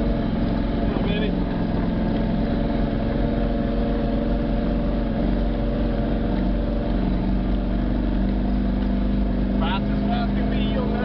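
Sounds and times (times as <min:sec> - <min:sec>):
engine running while driving: 0:00.0 - 0:11.0.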